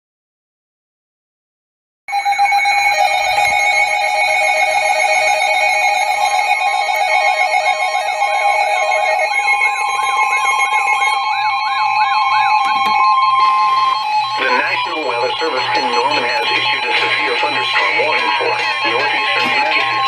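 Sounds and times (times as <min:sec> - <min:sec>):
steady beeping tones: 0:02.1 - 0:20.0.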